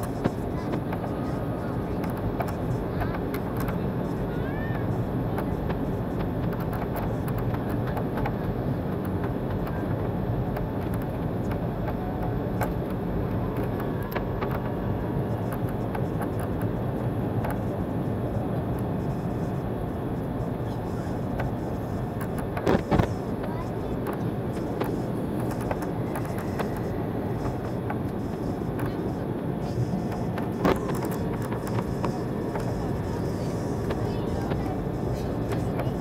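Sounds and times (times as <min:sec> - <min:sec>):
airplane cabin engine noise: 0:00.0 - 0:36.0.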